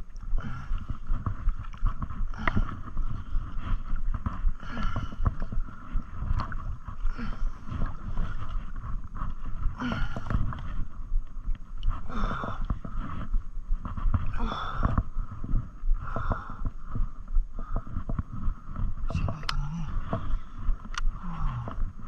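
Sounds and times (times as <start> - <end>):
muffled water rumble: 0.0 - 22.0.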